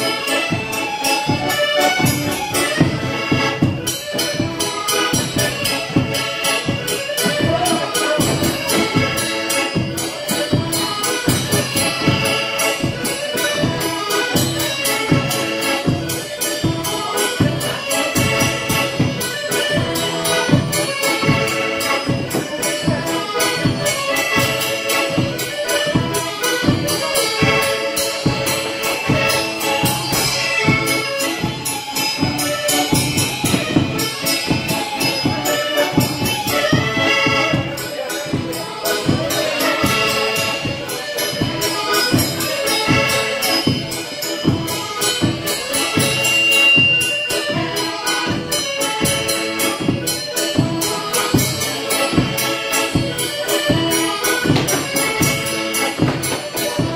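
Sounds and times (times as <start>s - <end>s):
accordion: 0.0s - 56.9s
fiddle: 0.0s - 56.9s.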